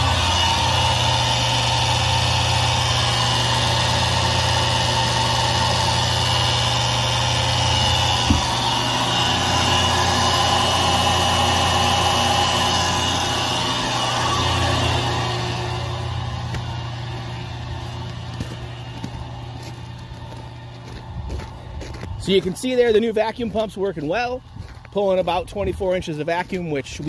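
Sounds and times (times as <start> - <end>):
vacuum pump humming: 0.0 - 27.0.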